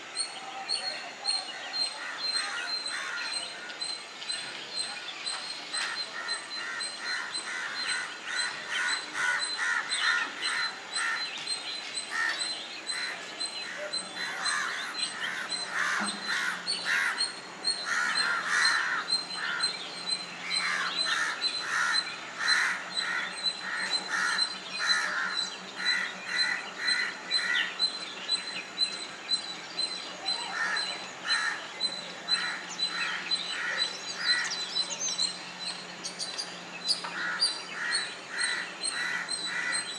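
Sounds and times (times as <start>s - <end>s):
parakeets calling: 0.2s - 39.9s.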